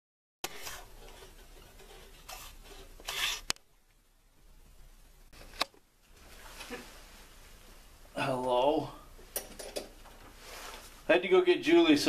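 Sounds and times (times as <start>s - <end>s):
rustling and handling noise: 0.4s - 4.0s, 4.8s - 11.2s.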